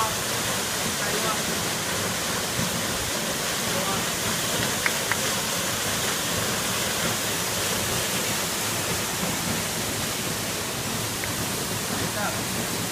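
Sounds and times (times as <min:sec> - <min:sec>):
small waterfall rushing: 0:00.0 - 0:12.9.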